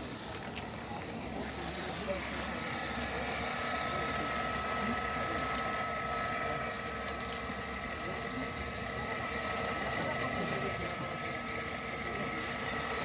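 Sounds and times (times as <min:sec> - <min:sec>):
electric water pump whining: 0:00.0 - 0:13.0.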